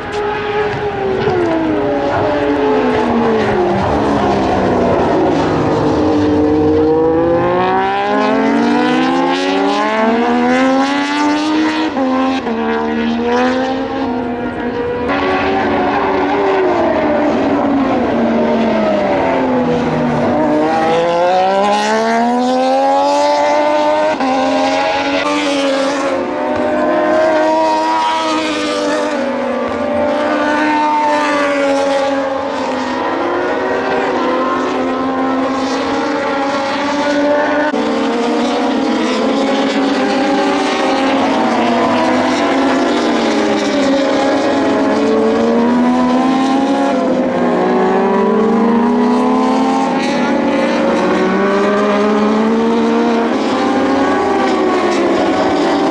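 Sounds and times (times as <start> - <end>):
race motorcycles passing: 0.0 - 55.9.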